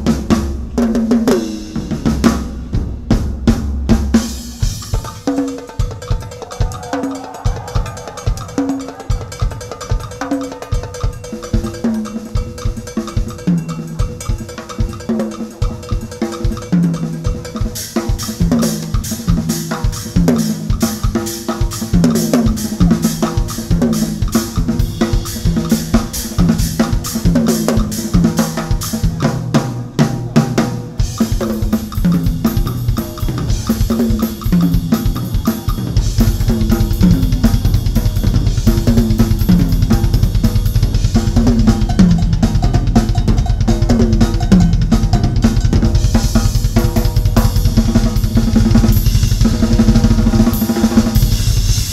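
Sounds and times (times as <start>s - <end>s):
fast drum solo: 0.0s - 51.9s
cymbals ringing: 4.2s - 29.3s, 30.6s - 51.9s.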